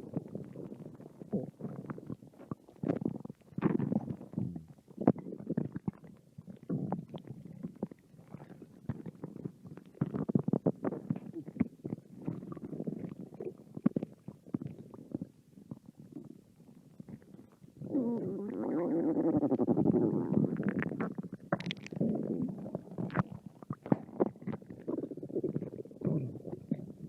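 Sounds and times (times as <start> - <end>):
stomach growling: 0.0 - 27.0.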